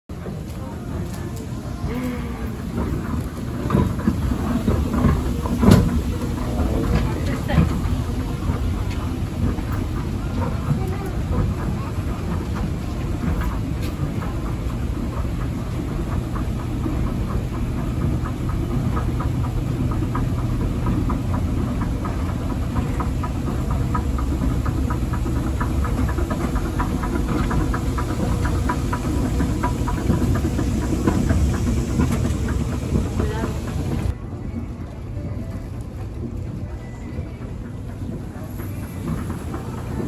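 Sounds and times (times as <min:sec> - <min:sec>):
escalator drive hum: 0:00.1 - 0:40.0.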